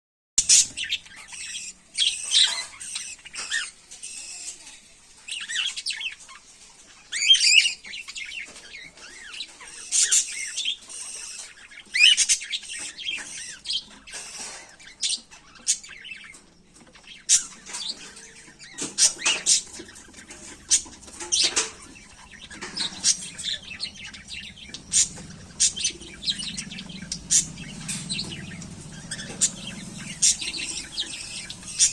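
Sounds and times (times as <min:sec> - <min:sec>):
cockatiels chirping: 0:00.4 - 0:31.9.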